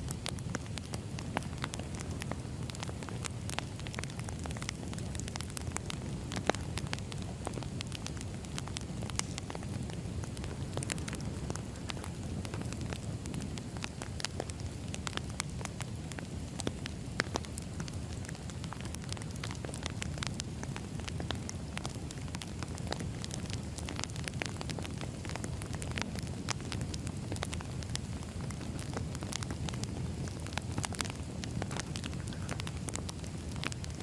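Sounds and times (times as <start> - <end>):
logs crackling and popping: 0.0 - 34.0
wood fire burning: 0.0 - 34.0.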